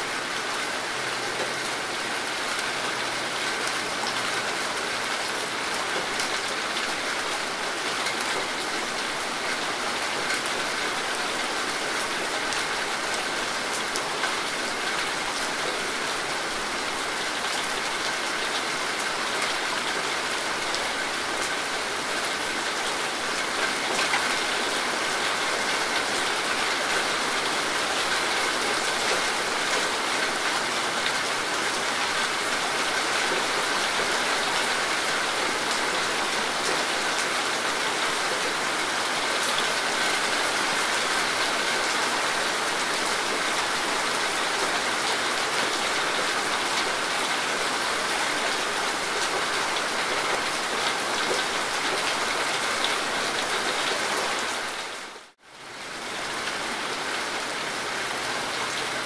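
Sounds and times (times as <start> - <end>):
rain on leafy foliage: 0.0 - 59.0.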